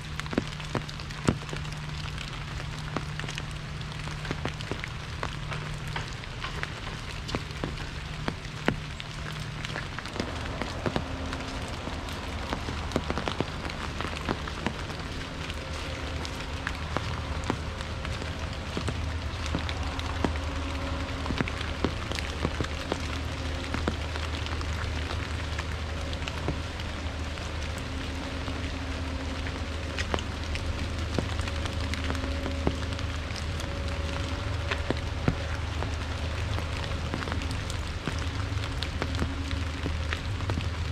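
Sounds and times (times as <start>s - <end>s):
low steady hum: 0.0s - 40.9s
raindrops tapping on umbrella: 0.0s - 40.9s
steady hiss of rain: 0.0s - 40.9s.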